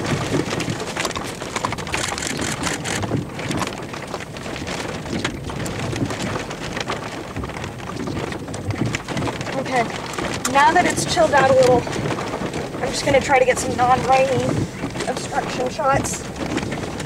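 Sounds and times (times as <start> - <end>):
rain on car windshield and roof: 0.0 - 17.0.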